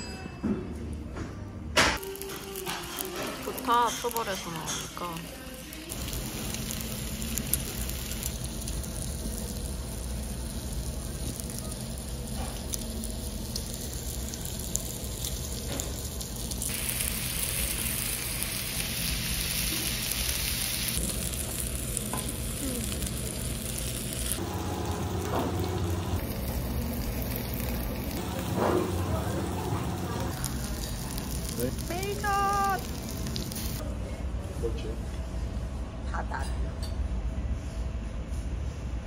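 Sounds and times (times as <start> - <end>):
pork sizzling on a griddle: 2.0 - 33.8.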